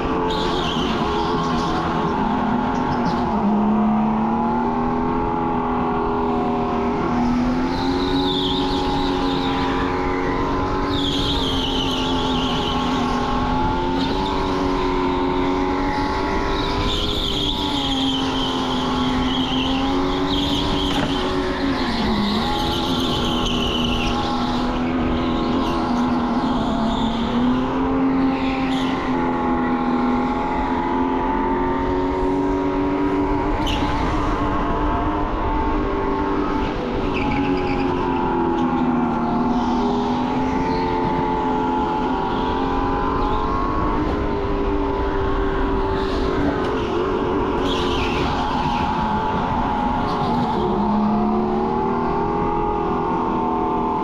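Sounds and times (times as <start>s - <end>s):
electric go-kart motor whining: 0.0s - 54.0s.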